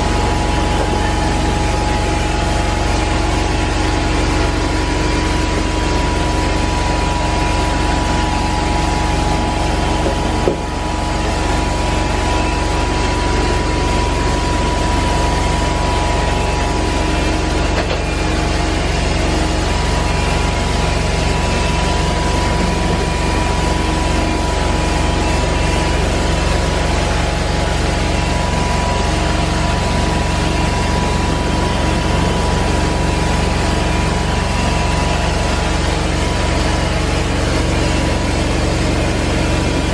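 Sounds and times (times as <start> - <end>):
carpet cleaning machine whining: 0.0 - 39.9.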